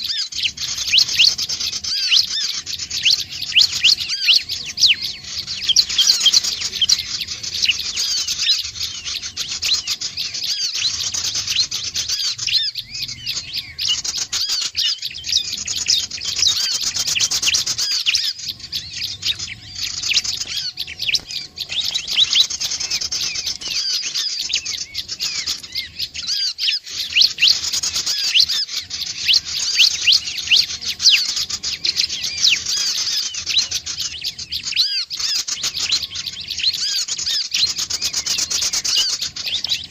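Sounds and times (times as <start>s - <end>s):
bird rapid high chirps: 0.0s - 39.9s.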